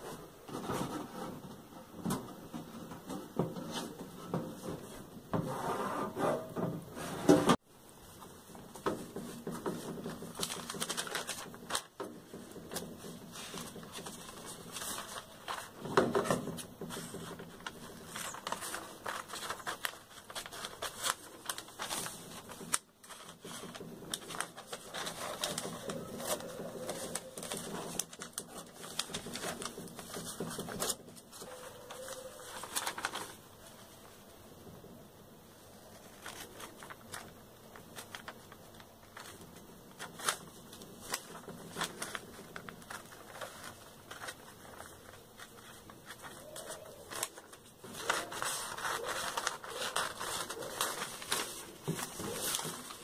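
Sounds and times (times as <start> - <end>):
paper rustling: 8.1 - 34.3, 35.6 - 53.0.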